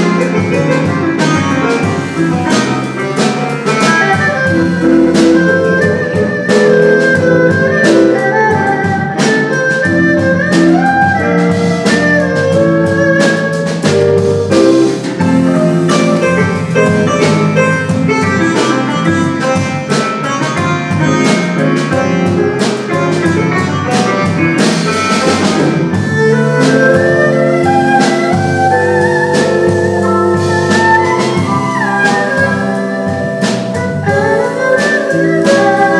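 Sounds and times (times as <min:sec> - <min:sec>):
drums keeping time: 0:00.0 - 0:35.9
jazz band music: 0:00.0 - 0:35.9.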